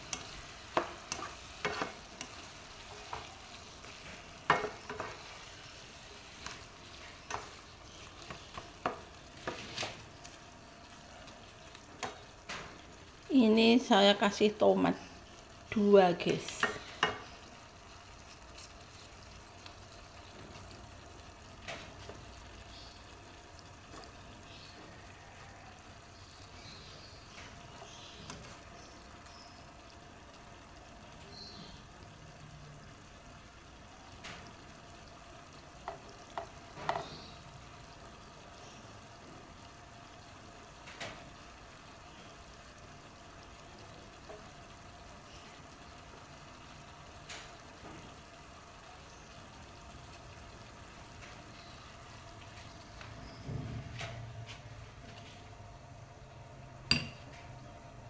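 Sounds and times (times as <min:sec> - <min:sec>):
vegetables sizzling in oil: 0:00.0 - 0:58.0.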